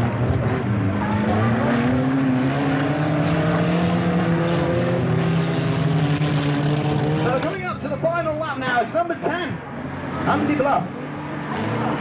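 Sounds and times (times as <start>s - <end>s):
racing car engine accelerating: 0.0s - 7.7s, 9.9s - 12.0s.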